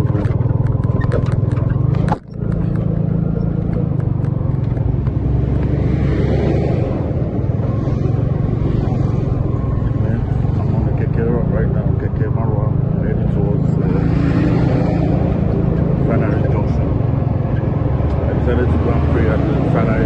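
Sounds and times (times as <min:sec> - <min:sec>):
vehicle engine and tyres rumbling: 0:00.0 - 0:20.0.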